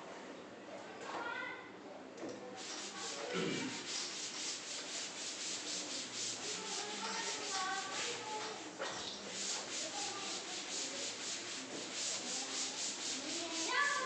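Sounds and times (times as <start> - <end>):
duster rubbing chalkboard: 2.6 - 14.0.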